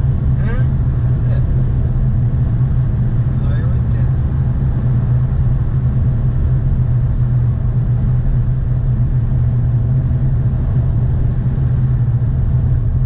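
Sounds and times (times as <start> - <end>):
engine and road noise drone: 0.0 - 13.0.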